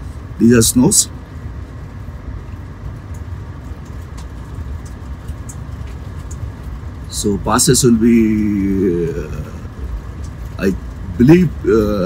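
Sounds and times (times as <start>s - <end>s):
engine and tyre rumble: 0.0s - 12.0s.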